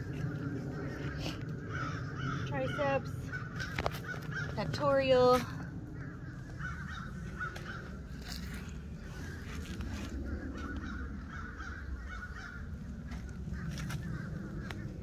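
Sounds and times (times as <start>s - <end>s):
birds calling: 0.0s - 15.0s
low microphone rumble: 0.0s - 15.0s.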